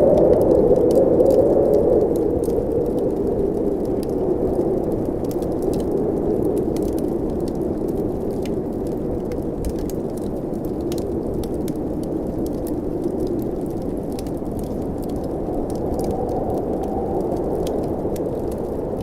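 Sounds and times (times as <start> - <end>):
blizzard wind howling: 0.0 - 19.0
wood fire crackling: 0.0 - 19.0.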